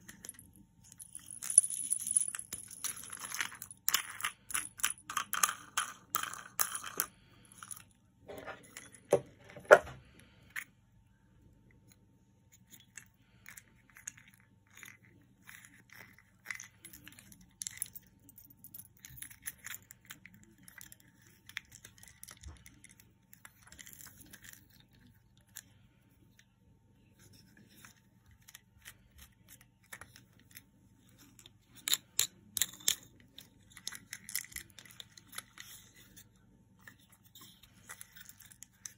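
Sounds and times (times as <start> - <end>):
toy parts clicking and knocking: 0.0 - 10.6, 12.5 - 25.7, 27.3 - 38.9.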